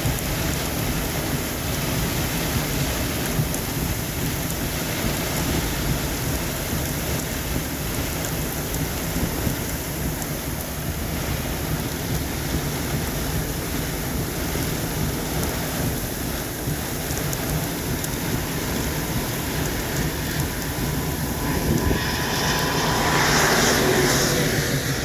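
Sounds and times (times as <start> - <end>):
deep rumble: 0.0 - 25.0
gusting wind: 0.0 - 25.0
heavy rain: 0.0 - 25.0.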